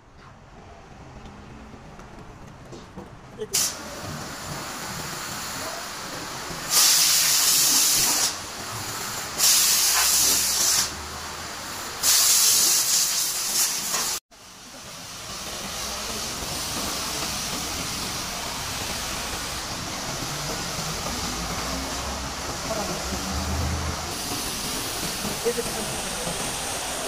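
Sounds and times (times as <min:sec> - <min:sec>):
pressure washer spraying: 0:03.6 - 0:14.2, 0:15.0 - 0:27.0.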